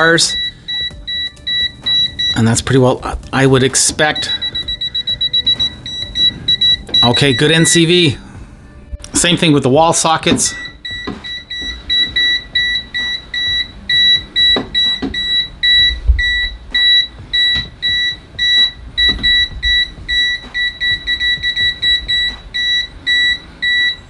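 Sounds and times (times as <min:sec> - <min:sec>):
multimeter beeping: 0:00.0 - 0:02.4, 0:04.0 - 0:07.9, 0:10.5 - 0:24.0.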